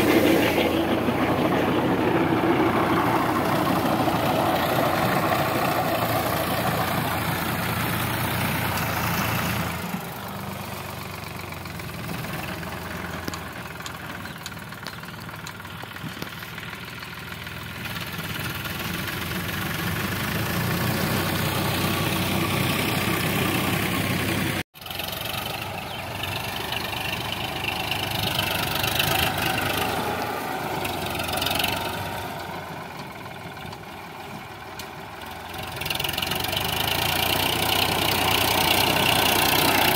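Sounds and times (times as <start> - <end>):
rotavator tilling soil: 0.0 - 39.9
tractor diesel engine under load: 0.0 - 39.9.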